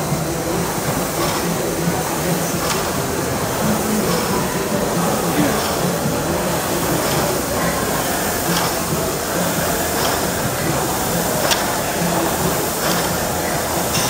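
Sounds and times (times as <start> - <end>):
rowing machine flywheel whirring: 0.0 - 14.0.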